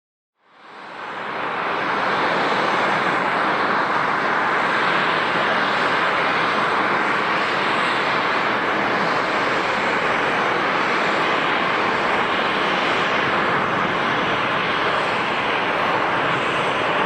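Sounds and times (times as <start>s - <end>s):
jet engine rush: 0.4s - 17.0s.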